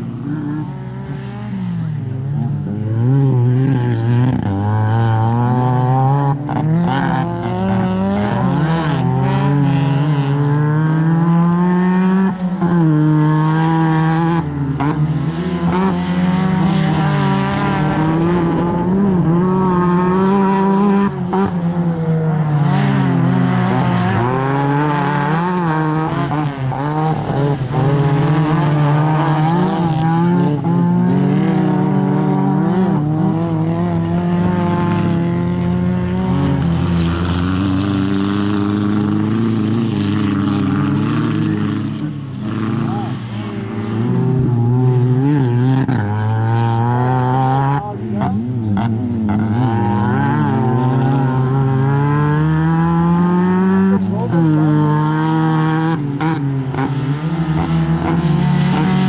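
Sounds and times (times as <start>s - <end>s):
car engine revving through gears: 0.0s - 59.0s.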